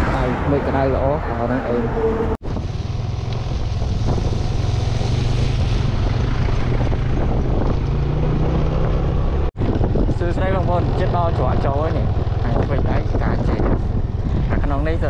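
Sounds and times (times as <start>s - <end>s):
wind buffeting microphone: 2.4s - 15.0s.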